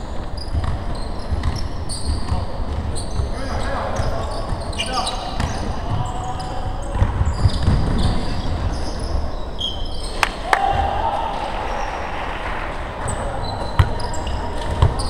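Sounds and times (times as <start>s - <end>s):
sneakers squeaking on hardwood: 0.0s - 10.4s, 13.0s - 15.0s.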